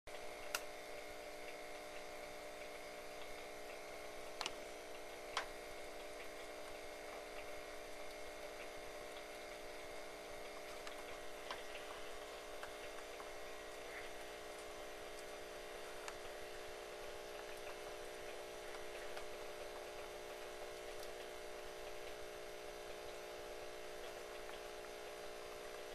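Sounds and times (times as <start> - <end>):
steady hum: 0.1 - 25.9.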